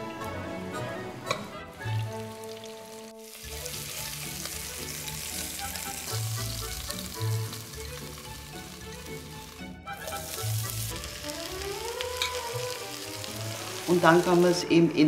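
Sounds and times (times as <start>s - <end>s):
background music: 0.0s - 15.0s
meat sizzling in hot fat: 1.5s - 15.0s.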